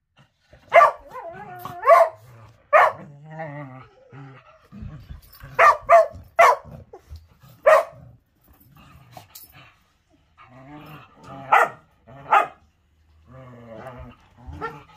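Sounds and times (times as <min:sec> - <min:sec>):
dogs growling: 0:00.1 - 0:14.9
dogs play-barking: 0:00.4 - 0:14.9.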